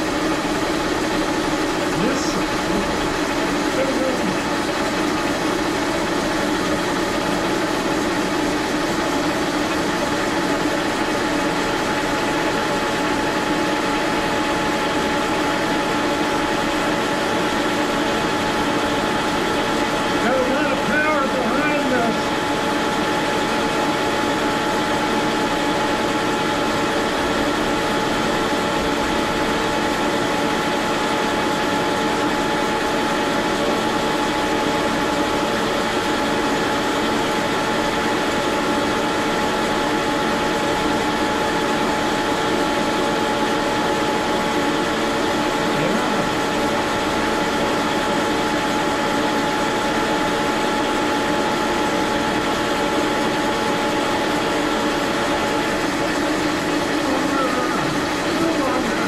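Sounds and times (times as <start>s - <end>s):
lathe gear whine: 0.0s - 59.0s.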